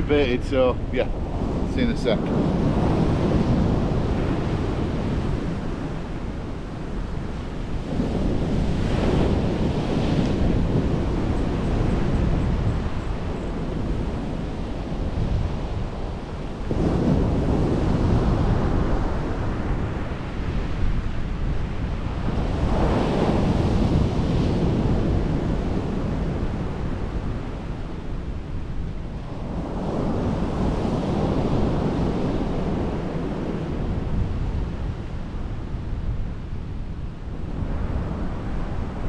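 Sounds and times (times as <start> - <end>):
sea surf breaking on shore: 0.0 - 39.0
wind rumbling on microphone: 0.0 - 39.0.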